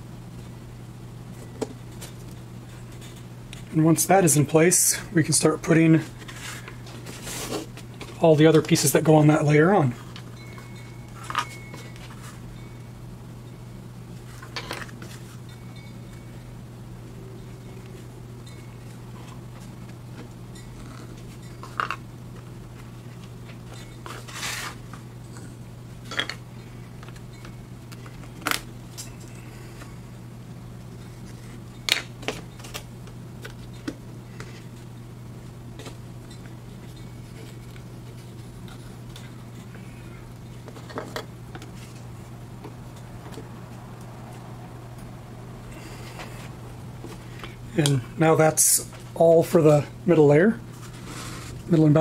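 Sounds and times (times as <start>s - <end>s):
low hum: 0.0s - 51.8s.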